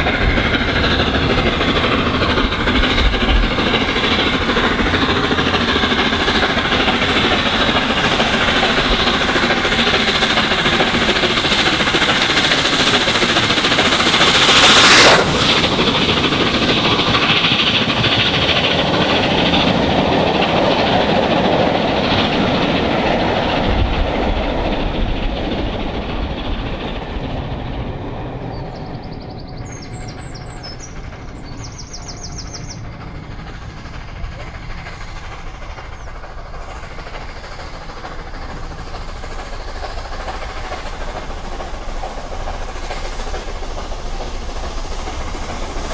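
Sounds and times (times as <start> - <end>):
coaches rattling on rails: 0.0 - 45.9
steam locomotive passing: 0.0 - 45.9.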